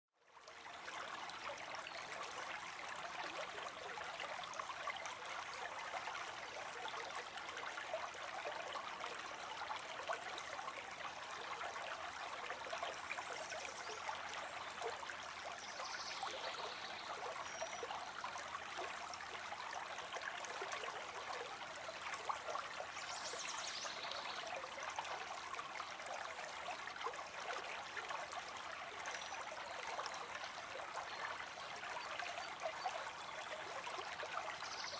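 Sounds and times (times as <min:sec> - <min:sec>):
river water flowing: 0:00.3 - 0:34.9.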